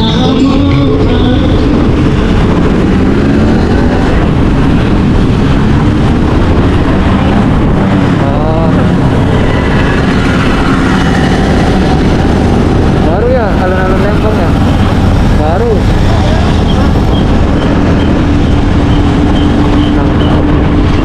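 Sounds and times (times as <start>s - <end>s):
vehicle ride rumble in traffic: 0.0s - 21.0s.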